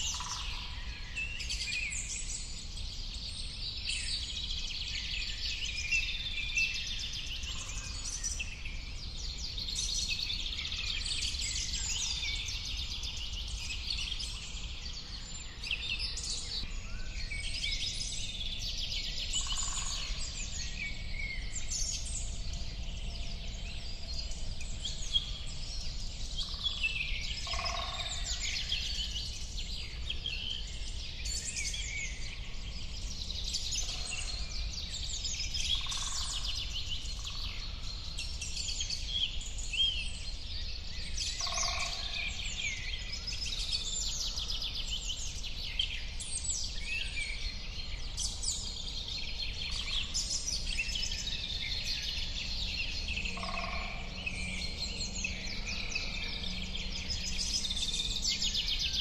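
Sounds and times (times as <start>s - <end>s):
chorus of birds chirping: 0.0s - 59.0s.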